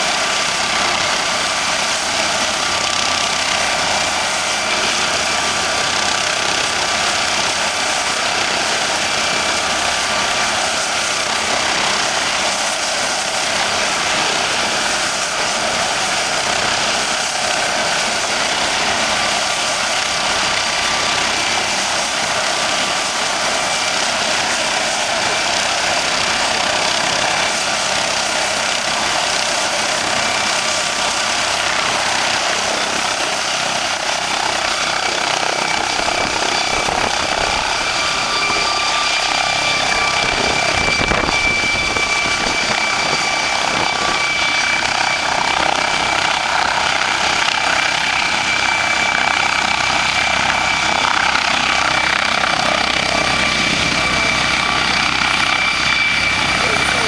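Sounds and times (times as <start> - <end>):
helicopter rotor rush: 0.0 - 57.0
helicopter turbine whine: 0.0 - 57.0.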